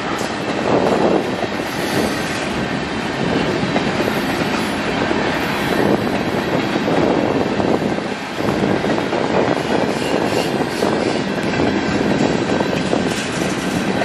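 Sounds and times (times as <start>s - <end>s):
train rolling rumble: 0.0s - 14.0s
train wheels clicking over rail joints: 0.0s - 14.0s.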